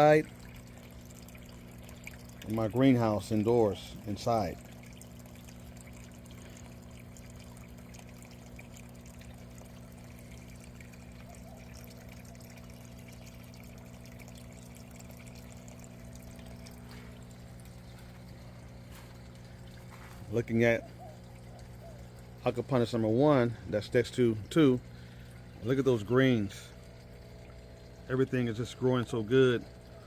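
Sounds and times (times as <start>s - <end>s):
constant low hum: 0.0s - 30.0s
water trickling and pouring: 0.0s - 30.0s.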